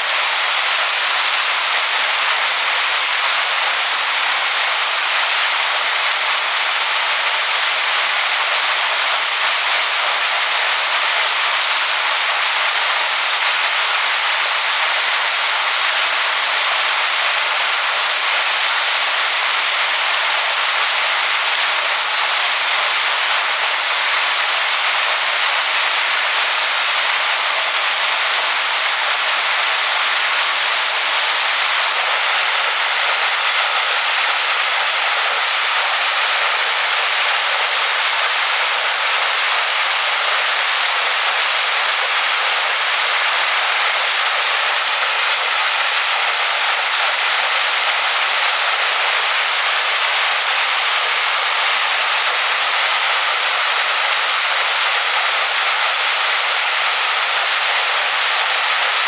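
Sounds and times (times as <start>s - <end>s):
waterfall pouring onto rocks: 0.0s - 59.0s.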